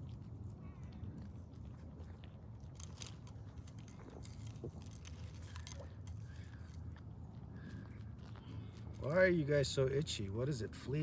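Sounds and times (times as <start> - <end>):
goats crunching: 0.0 - 11.0
steady low rumble: 0.0 - 11.0.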